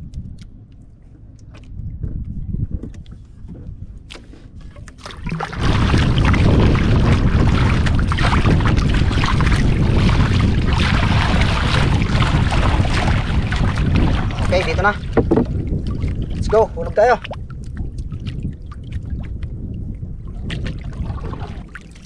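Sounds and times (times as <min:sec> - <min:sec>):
boat motor and water: 0:00.0 - 0:22.0
low boat engine rumble: 0:00.0 - 0:22.0.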